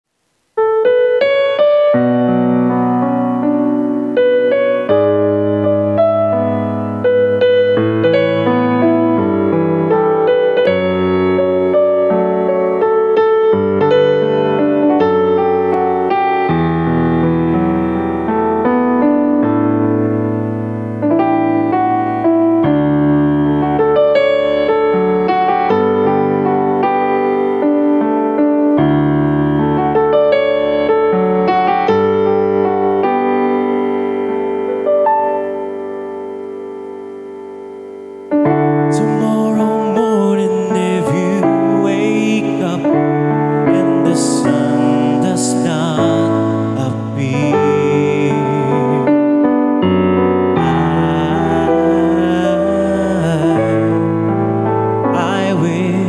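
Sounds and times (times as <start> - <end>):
piano chords: 0.2 - 56.0.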